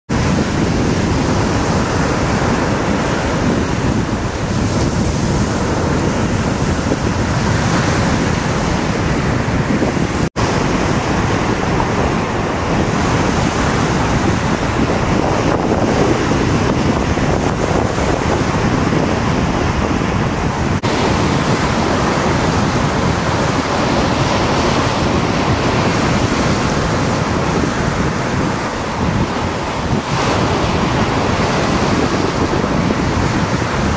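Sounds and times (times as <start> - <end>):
wind buffeting microphone: 0.1 - 33.9
waves crashing on stones: 0.2 - 33.9.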